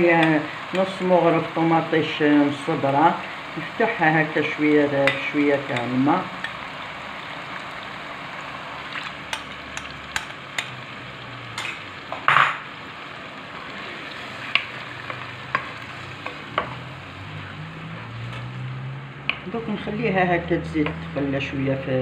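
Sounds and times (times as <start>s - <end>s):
chicken frying sizzle: 0.0s - 22.0s.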